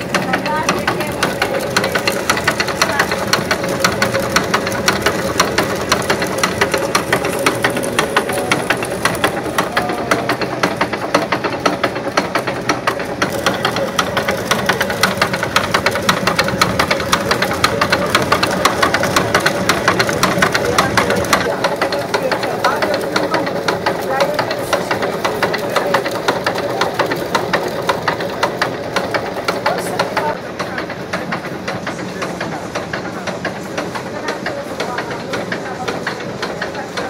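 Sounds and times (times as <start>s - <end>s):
fast wooden clatter: 0.0s - 37.0s
millstones humming: 0.0s - 37.0s.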